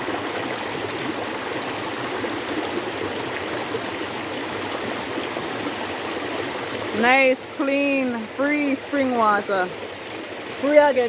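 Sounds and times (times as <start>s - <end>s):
river rushing: 0.0s - 11.0s
small waterfall: 0.0s - 11.0s.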